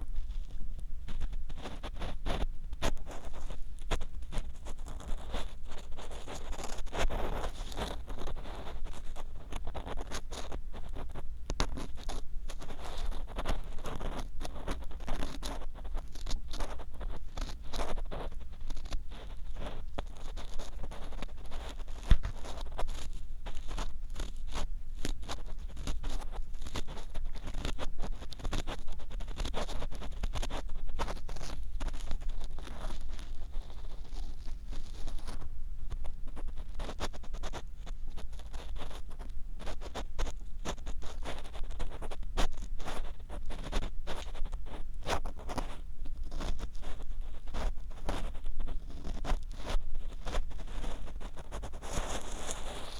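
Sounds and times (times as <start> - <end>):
ear pick scratching microphone: 0.0 - 52.9.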